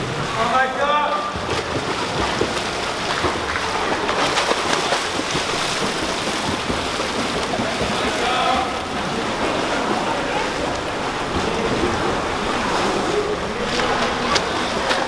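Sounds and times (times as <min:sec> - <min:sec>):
swimmers splashing pool water: 0:00.0 - 0:15.0.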